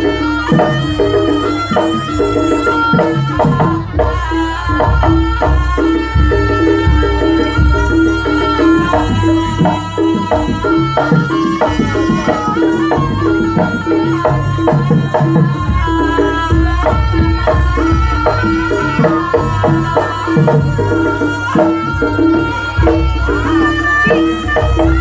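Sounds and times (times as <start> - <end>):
hand drum strokes: 0.0 - 25.0
high held melody line: 0.0 - 25.0
pitched percussion notes: 0.0 - 25.0.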